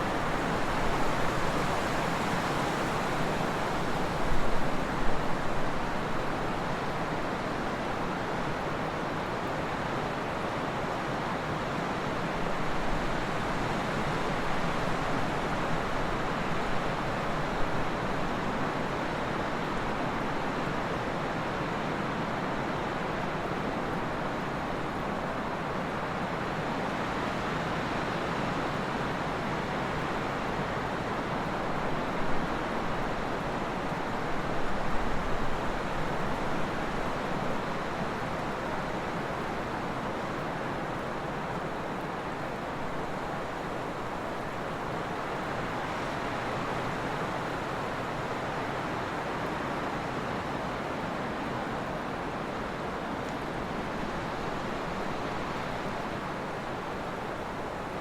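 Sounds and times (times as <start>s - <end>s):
wind blowing steadily: 0.0s - 58.0s.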